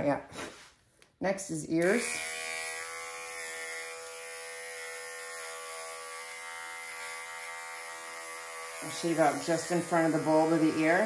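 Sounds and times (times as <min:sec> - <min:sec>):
electric clipper buzzing: 0:01.7 - 0:11.0.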